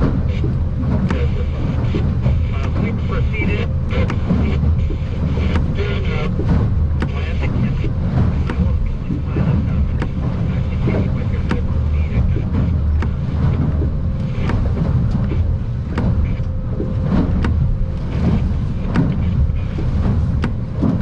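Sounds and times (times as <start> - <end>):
choppy water around a boat: 0.0 - 21.0
wind rumble: 0.0 - 21.0.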